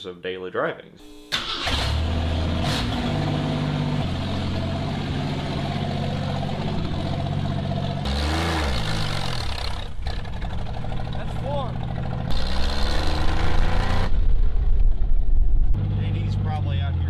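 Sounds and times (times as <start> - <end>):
car engine running and revving: 1.7 - 17.0.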